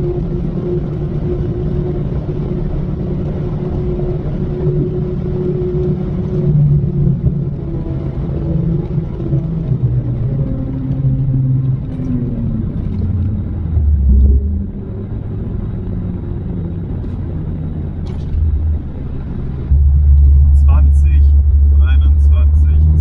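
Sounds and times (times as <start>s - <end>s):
car engine from inside cabin: 0.0s - 23.0s.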